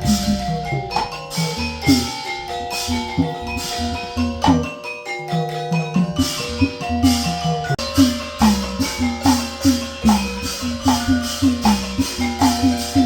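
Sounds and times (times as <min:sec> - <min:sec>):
steady percussion beat: 0:00.0 - 0:13.0
sustained melodic tones: 0:00.0 - 0:13.0
traditional ensemble music: 0:00.0 - 0:13.0.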